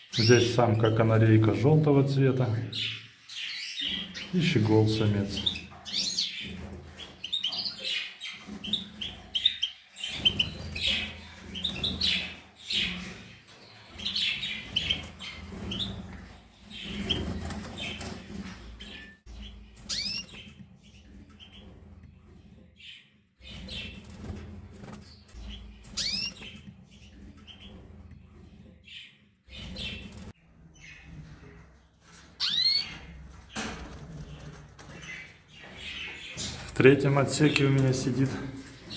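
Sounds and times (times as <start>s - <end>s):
caged birds chirping: 0.0s - 38.9s.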